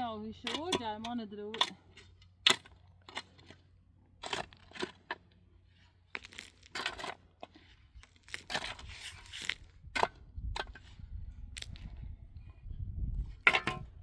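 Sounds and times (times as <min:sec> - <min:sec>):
hand tool digging earth: 0:00.0 - 0:14.0.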